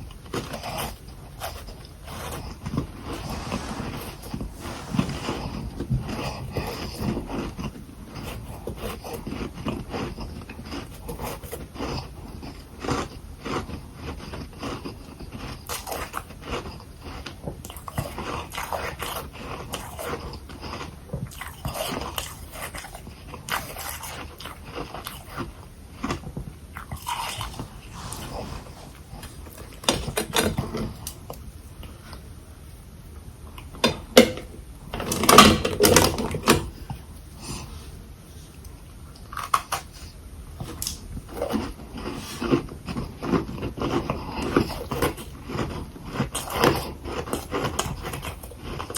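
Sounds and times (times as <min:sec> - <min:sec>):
crunchy biting and chewing frost: 0:00.1 - 0:31.3, 0:39.2 - 0:48.9.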